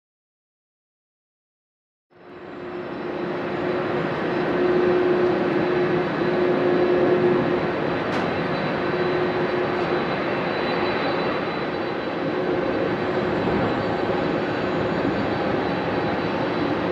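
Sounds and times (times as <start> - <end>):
jet engines running at low power: 2.1 - 16.9.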